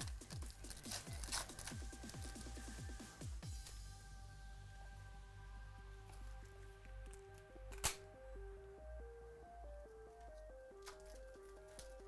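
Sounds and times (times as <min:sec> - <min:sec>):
simple background melody: 0:00.0 - 0:12.0.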